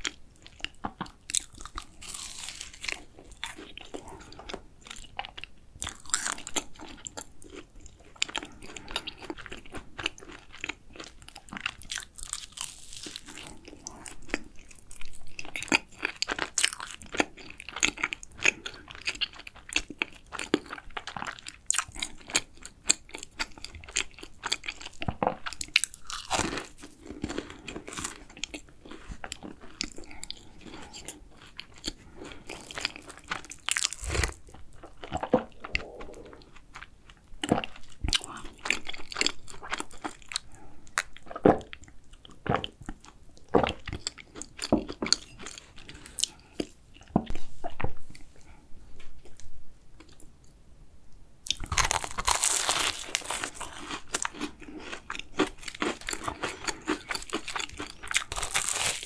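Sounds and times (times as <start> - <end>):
crunchy pastry chewing: 0.0 - 47.8, 51.4 - 59.0.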